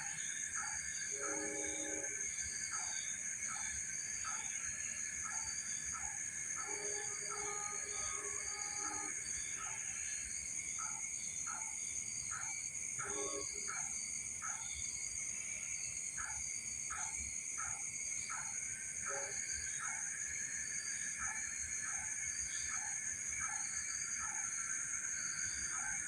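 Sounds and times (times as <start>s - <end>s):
crickets trilling: 0.0s - 26.0s
short insect call: 0.0s - 26.0s.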